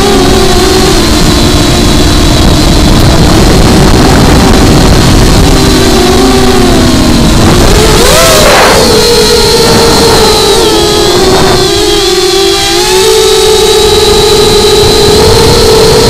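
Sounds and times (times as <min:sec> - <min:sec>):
aircraft motor running: 0:00.0 - 0:16.0
heavy wind rush: 0:00.0 - 0:16.0.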